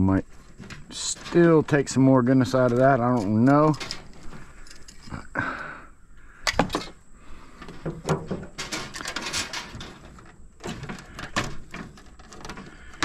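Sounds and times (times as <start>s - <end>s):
parts knocking and rattling: 0.0s - 5.3s, 6.4s - 13.0s
rustling: 0.0s - 5.3s, 6.3s - 13.0s.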